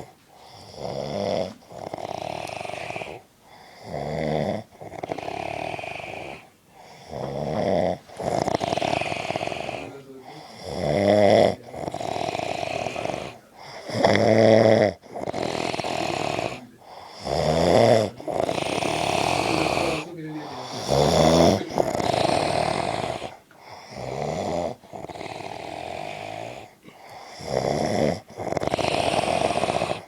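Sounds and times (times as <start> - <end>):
man snoring: 0.0 - 30.0.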